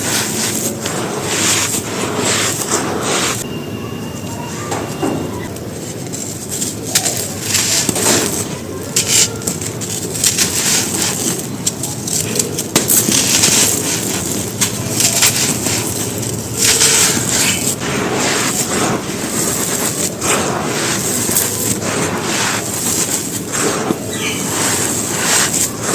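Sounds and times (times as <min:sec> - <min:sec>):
crumbly pieces crunching on floor: 0:00.0 - 0:03.4, 0:05.4 - 0:25.9.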